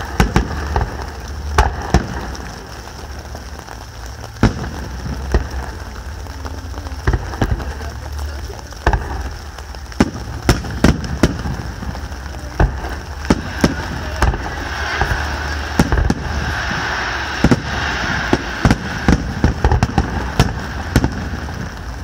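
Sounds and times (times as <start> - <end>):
firework shells bursting: 0.0 - 22.0
fireworks crackling hiss: 0.0 - 22.0.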